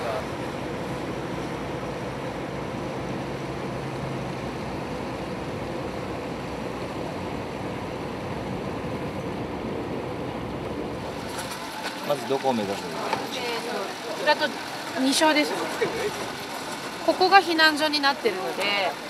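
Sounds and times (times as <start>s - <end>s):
boat engine running: 0.0s - 19.0s
water rushing along hull: 0.0s - 19.0s.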